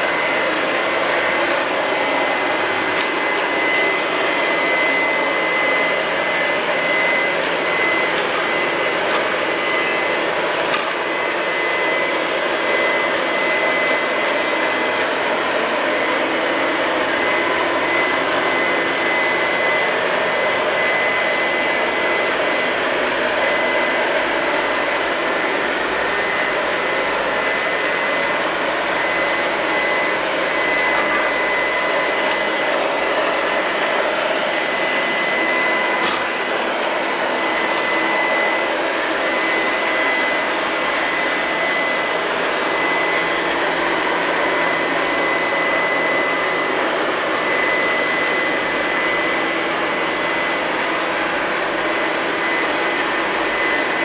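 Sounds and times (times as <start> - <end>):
robot vacuum cleaner running: 0.0 - 54.0.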